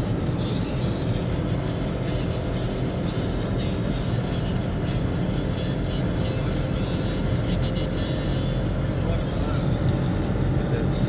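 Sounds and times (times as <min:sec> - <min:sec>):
car road and tyre noise: 0:00.0 - 0:11.0.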